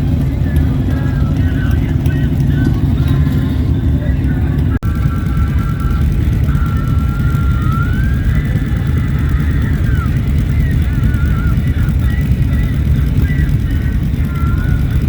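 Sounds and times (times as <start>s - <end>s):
motorcycles and road traffic: 0.0s - 15.0s.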